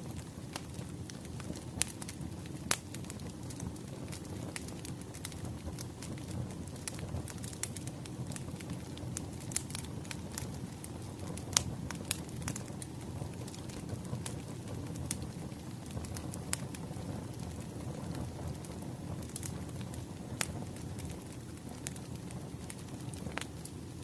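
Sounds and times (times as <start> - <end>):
wood fire crackling: 0.0 - 24.0
sharp pops of burning logs: 0.1 - 23.8.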